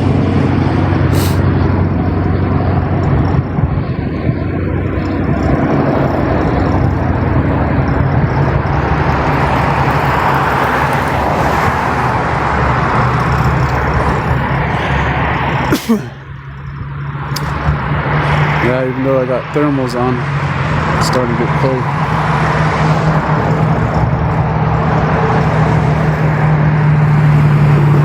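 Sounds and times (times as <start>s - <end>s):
low engine hum: 0.0s - 28.0s
road and wind noise: 0.0s - 28.0s.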